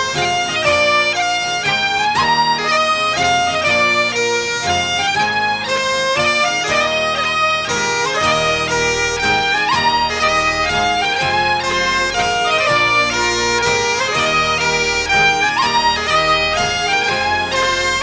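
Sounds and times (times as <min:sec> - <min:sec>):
bagpipe tune: 0:00.0 - 0:18.0.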